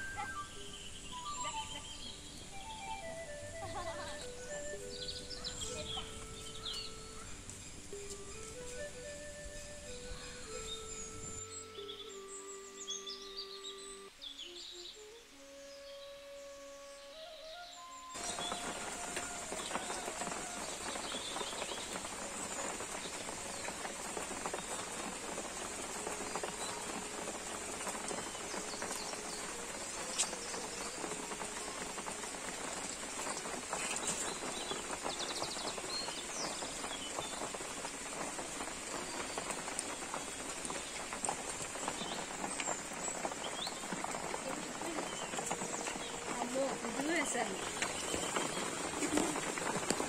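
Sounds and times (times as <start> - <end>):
high-pitched hiss: 0.0 - 50.0
rain pattering on leaves: 0.0 - 50.0.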